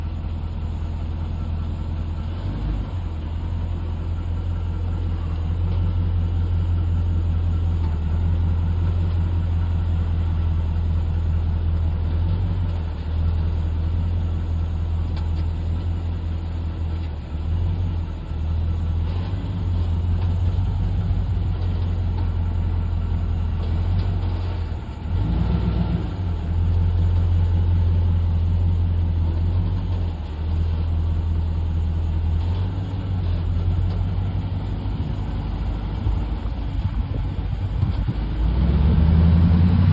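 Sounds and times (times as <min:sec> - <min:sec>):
vehicle grinding rumble: 0:00.0 - 0:39.9.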